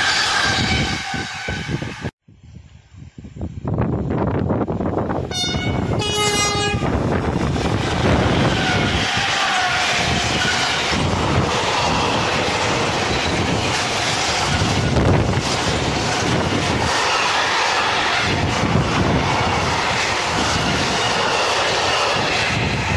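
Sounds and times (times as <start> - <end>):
freight train wheels rumbling: 0.0 - 2.2, 3.1 - 22.9.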